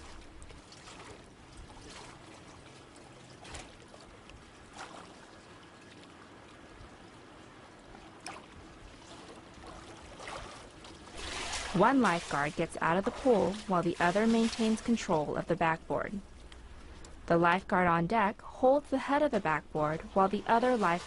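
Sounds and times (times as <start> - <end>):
water splashes: 0.0 - 17.2, 18.6 - 21.0
pool water lapping: 0.0 - 21.0.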